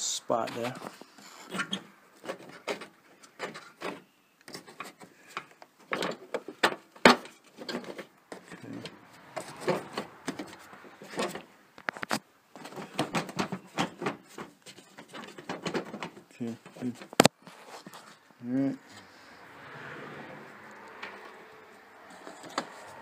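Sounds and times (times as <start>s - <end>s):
car parts clicking and knocking: 0.6s - 17.4s, 20.6s - 23.0s.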